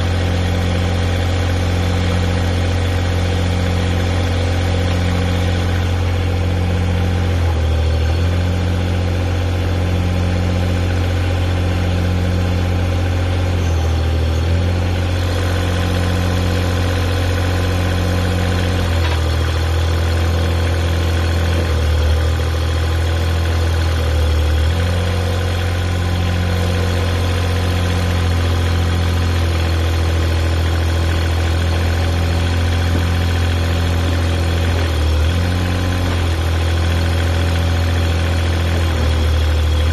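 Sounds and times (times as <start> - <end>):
excavator engine idling: 0.0 - 39.9.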